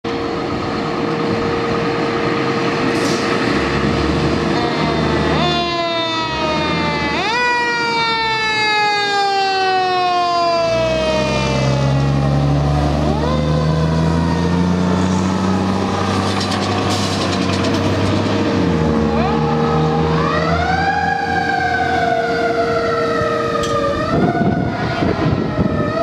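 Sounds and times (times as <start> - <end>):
truck engine rumble: 0.0 - 26.0.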